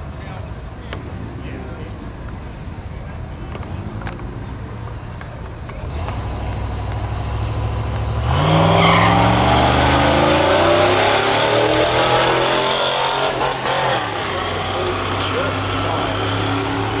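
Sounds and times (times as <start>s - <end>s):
car engines accelerating: 0.0s - 17.0s.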